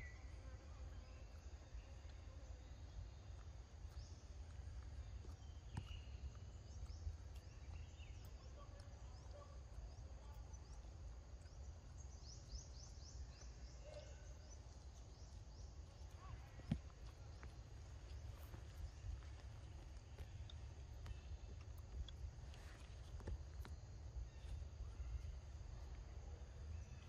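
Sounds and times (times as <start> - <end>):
low steady forest rumble: 0.0 - 27.0.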